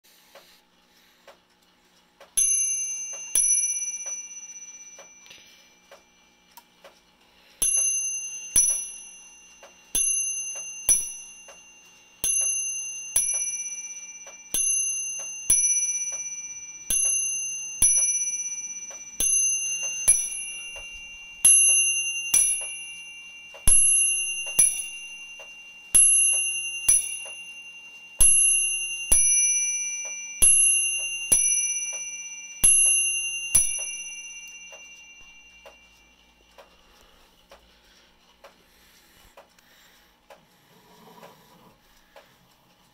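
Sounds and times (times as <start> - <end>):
clock hammers striking bells: 2.4 - 6.5, 7.6 - 38.0.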